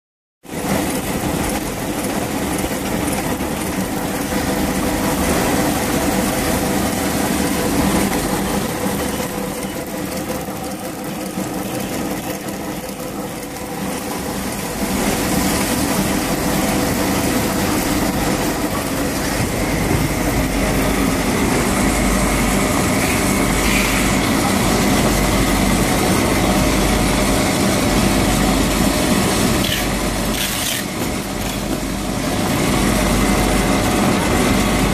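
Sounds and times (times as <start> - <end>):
packaging machine humming: 0.5 - 34.9.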